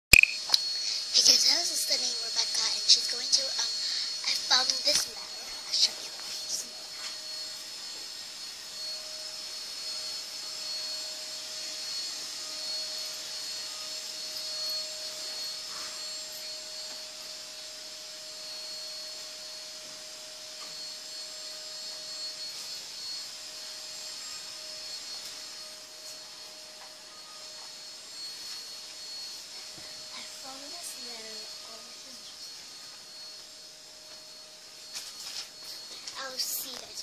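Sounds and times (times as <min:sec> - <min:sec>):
machine whirring with whine: 0:00.1 - 0:37.0.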